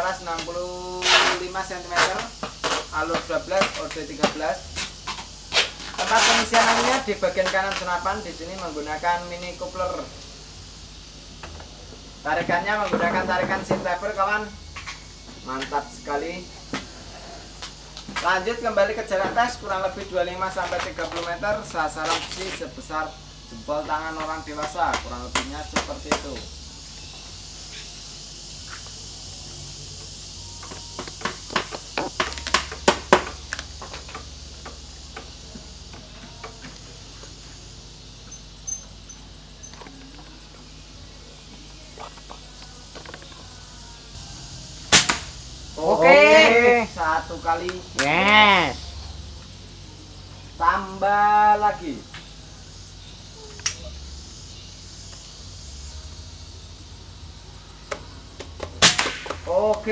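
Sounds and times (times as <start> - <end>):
high insect hiss: 0.0 - 59.9.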